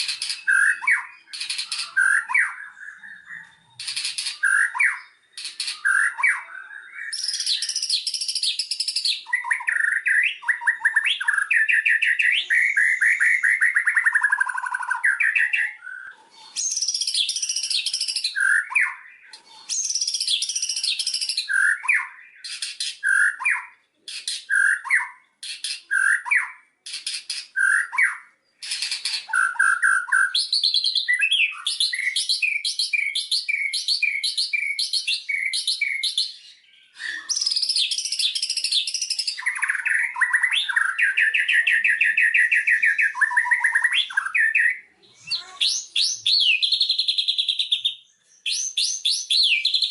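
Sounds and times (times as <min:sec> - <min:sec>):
songbird singing varied song: 0:00.0 - 0:49.9.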